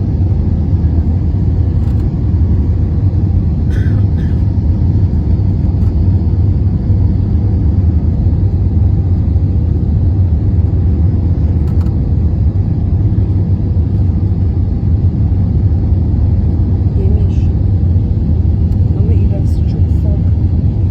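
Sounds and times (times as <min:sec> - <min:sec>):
faint hum: 0:00.0 - 0:20.9.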